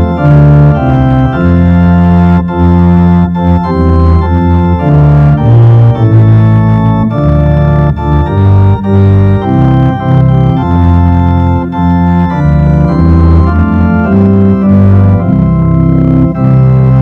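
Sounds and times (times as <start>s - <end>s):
organ playing slow chords: 0.0s - 17.0s.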